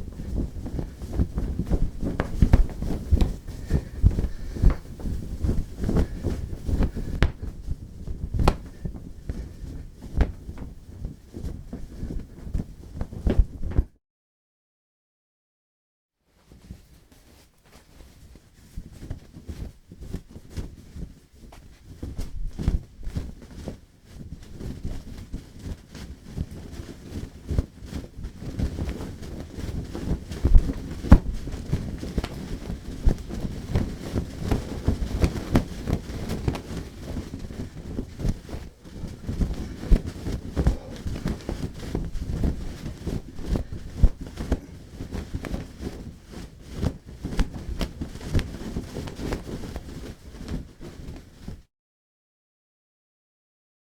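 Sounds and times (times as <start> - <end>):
towel flapping and rustling: 0.0 - 13.9, 16.3 - 51.7.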